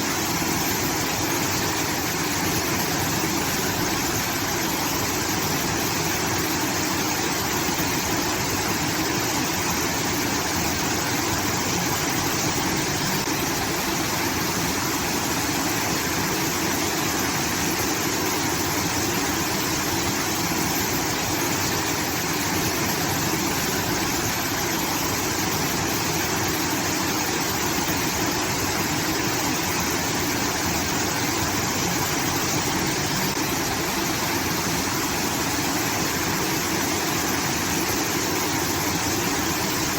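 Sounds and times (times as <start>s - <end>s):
water pouring and rushing: 0.0s - 39.9s.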